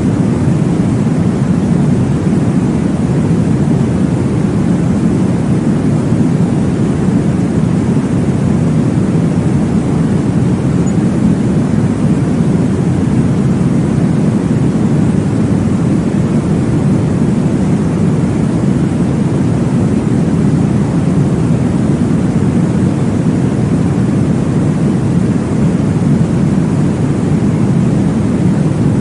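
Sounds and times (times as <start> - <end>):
white noise whooshing: 0.0 - 29.0.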